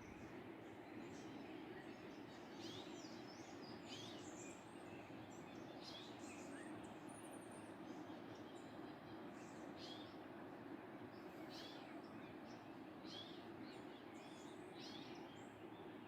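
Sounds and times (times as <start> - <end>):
small birds chirping: 0.0 - 10.2, 11.0 - 16.0.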